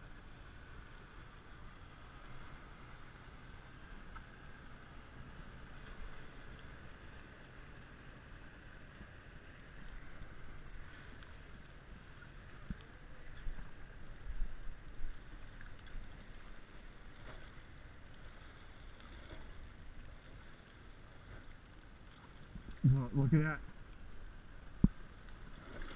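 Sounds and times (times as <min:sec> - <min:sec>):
water sloshing against hull: 0:00.0 - 0:25.9.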